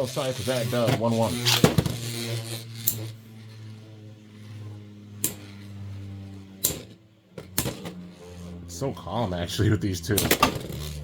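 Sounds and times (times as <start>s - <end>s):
spinning tops whirring: 0.0s - 11.0s.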